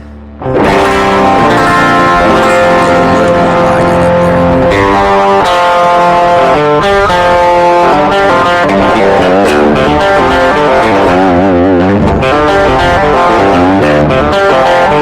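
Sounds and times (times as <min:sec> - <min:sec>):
overdriven electric guitar: 0:00.0 - 0:15.0.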